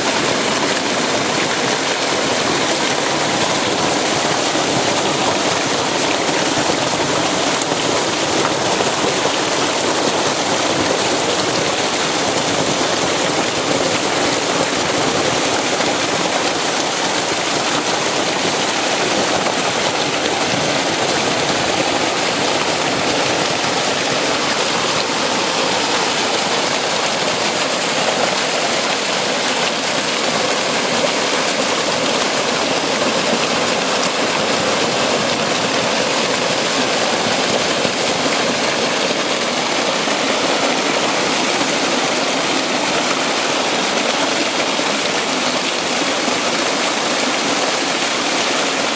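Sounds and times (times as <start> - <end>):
spring water rushing over rocks: 0.0 - 48.9.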